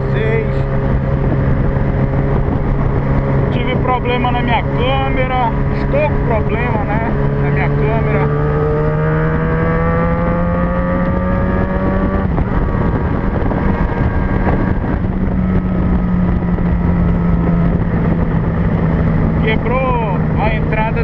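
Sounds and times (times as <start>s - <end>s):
motorcycle engine running: 0.0s - 21.0s
road and wind noise: 0.0s - 21.0s
second engine rising in pitch: 0.0s - 21.0s.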